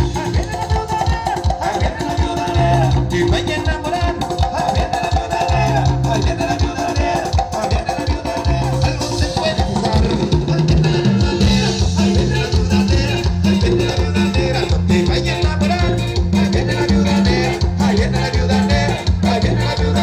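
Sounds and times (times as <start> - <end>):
live band playing latin dance music: 0.0 - 20.0.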